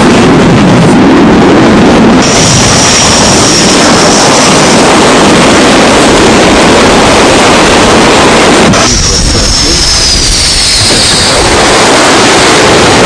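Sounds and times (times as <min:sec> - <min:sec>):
high whine: 0:00.0 - 0:13.0
jet engine roar: 0:00.0 - 0:13.0.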